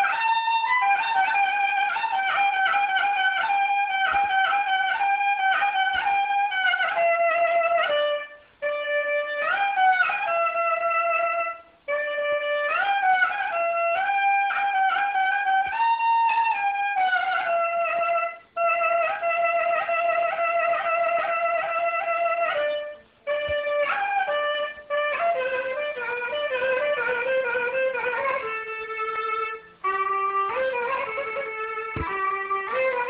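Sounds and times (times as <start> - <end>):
clarinet solo melody: 0.0 - 33.0.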